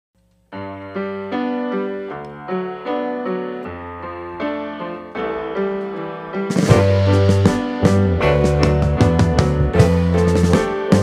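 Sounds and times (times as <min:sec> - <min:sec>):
piano-like keyboard melody: 0:00.2 - 0:11.0.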